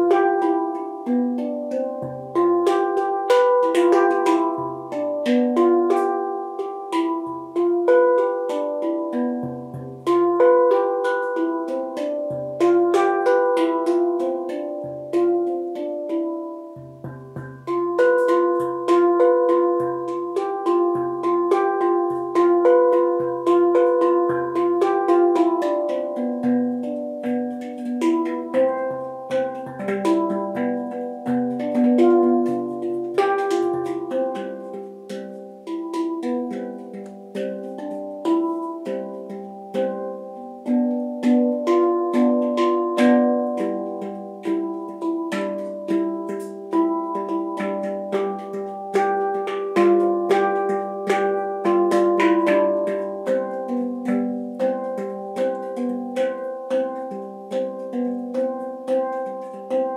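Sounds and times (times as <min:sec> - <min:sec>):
handpan melody: 0:00.0 - 0:59.9.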